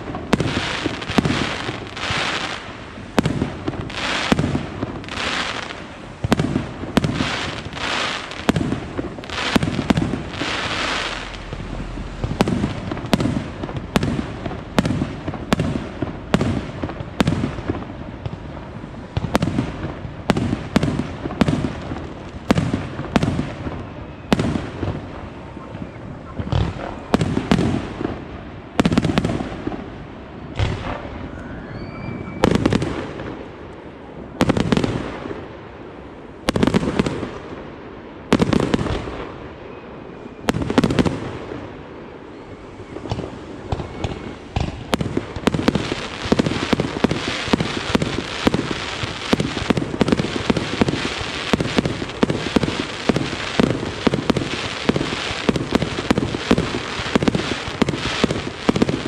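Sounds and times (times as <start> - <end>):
fireworks bangs: 0.0 - 29.9, 30.5 - 35.5, 38.3 - 39.4, 42.6 - 59.0
fireworks crackling: 0.0 - 31.4, 32.4 - 37.6, 38.2 - 39.5, 40.4 - 59.0.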